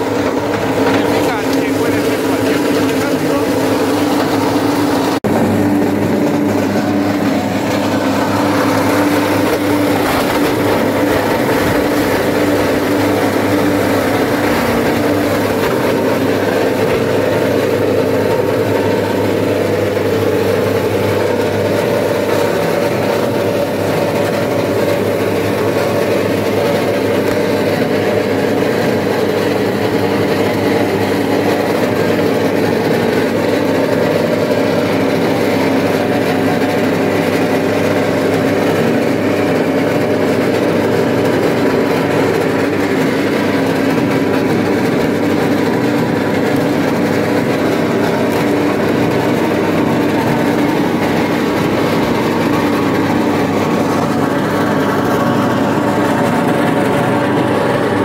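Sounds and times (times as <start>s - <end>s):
plastic shredder droning: 0.0s - 58.0s.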